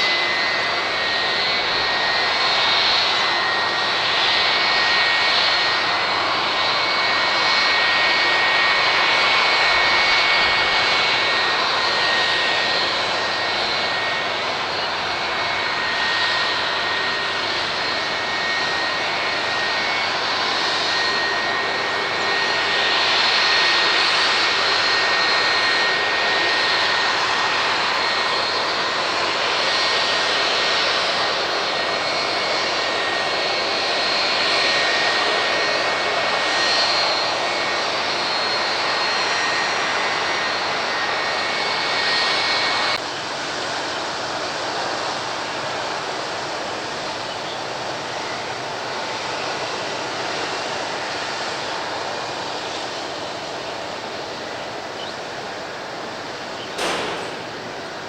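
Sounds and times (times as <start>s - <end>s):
high whining engine tones: 0.0s - 43.0s, 49.1s - 58.0s
jet engines running: 0.0s - 58.0s.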